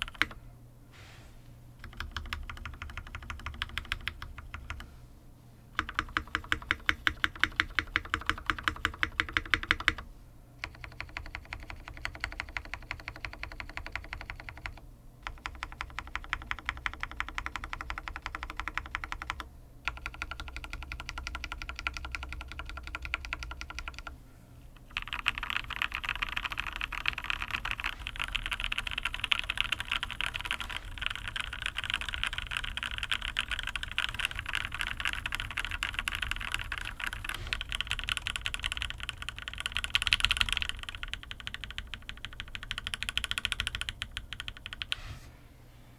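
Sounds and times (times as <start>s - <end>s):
typing on mechanical keyboard: 0.0s - 0.4s, 1.8s - 4.9s, 5.8s - 10.0s, 10.6s - 24.1s, 24.9s - 45.0s.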